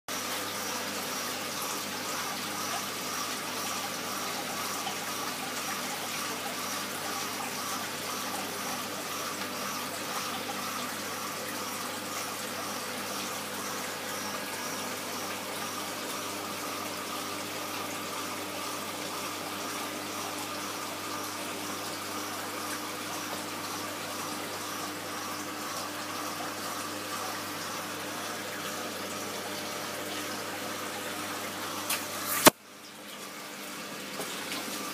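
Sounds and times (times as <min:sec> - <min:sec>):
faint pump hum: 0:00.1 - 0:34.9.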